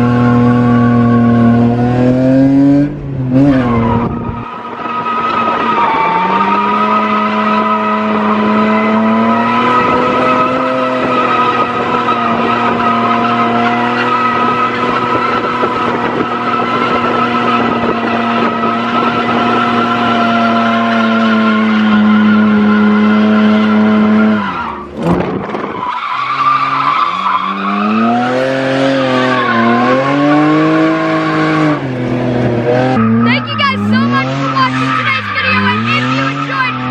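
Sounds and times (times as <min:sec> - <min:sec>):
car engine at high revs: 0:00.0 - 0:36.9
tyre squeal: 0:03.4 - 0:25.0, 0:25.6 - 0:30.2, 0:32.7 - 0:36.9.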